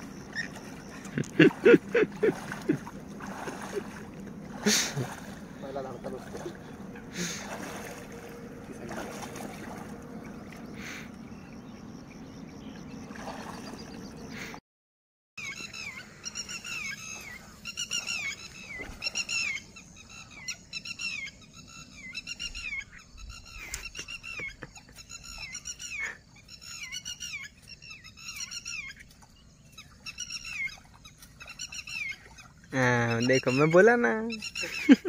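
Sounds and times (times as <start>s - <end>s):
bird calling: 0.0s - 14.6s, 15.4s - 35.0s.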